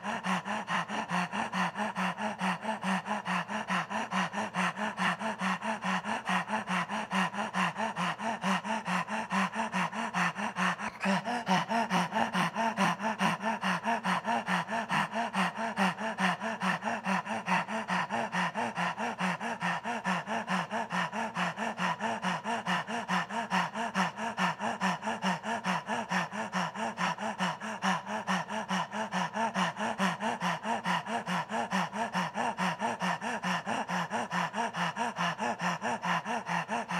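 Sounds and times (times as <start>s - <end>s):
man panting rapidly: 0.0s - 36.9s.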